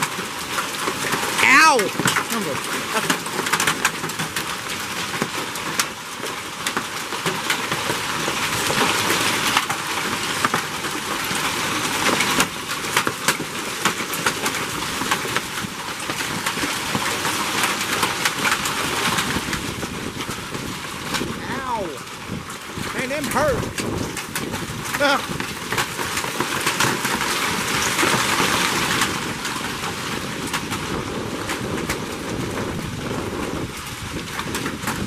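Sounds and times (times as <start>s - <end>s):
hailstones striking surfaces: 0.0s - 35.0s
heavy rain: 0.0s - 35.0s.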